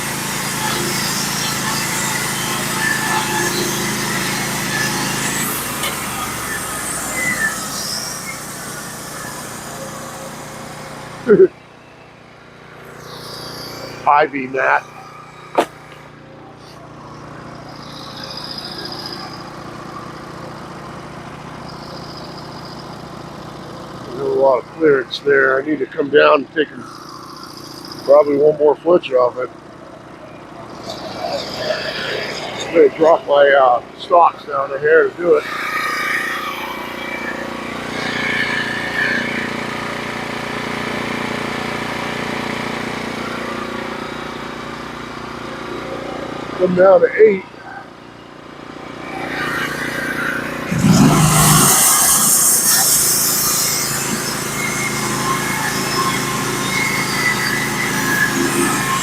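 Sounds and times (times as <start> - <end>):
high whine: 0.0 - 41.4, 42.4 - 59.0
sawmill engine running: 0.0 - 59.0.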